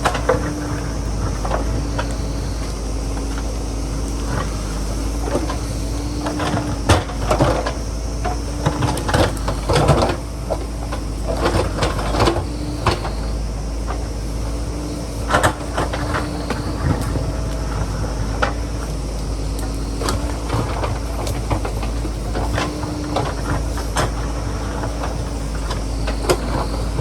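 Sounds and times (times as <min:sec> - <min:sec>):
diesel engine running under load: 0:00.0 - 0:27.0
digger arm and bucket clanking: 0:00.0 - 0:27.0.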